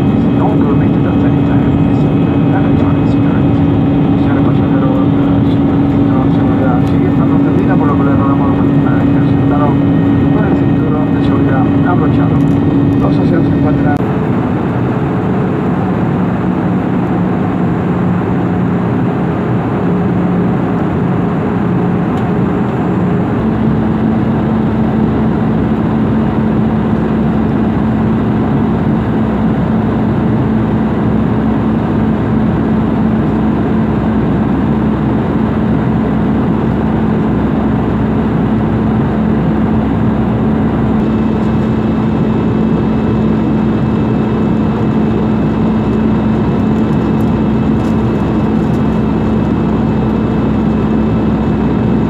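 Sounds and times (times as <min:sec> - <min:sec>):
jet airliner cabin roar: 0:00.0 - 0:52.0.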